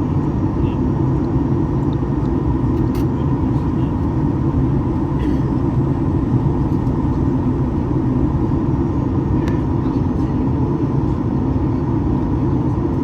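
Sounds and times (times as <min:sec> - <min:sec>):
airplane cabin engine roar: 0:00.0 - 0:13.0.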